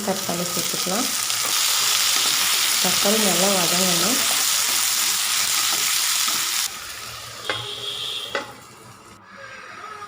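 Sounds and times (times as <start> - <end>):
vegetables sizzling in oil: 0.0 - 9.2.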